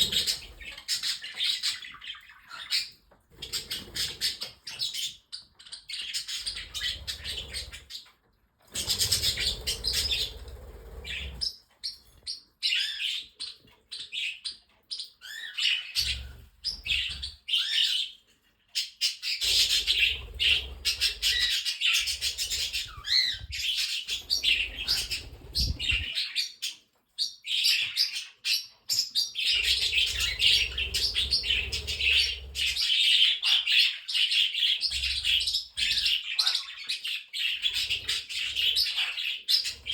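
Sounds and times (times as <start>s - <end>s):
budgies chattering and chirping: 0.0s - 39.9s.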